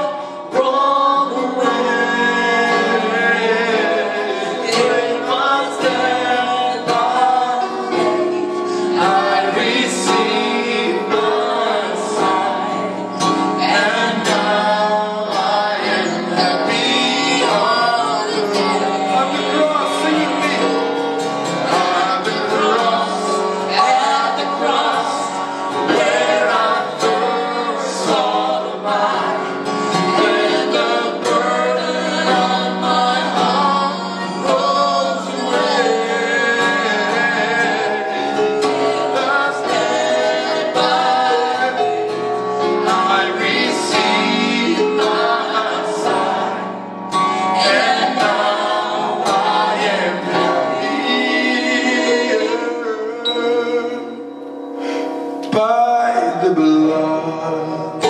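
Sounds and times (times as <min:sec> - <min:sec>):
instrumental backing music: 0:00.0 - 0:58.0
voices singing worship song: 0:00.0 - 0:58.0.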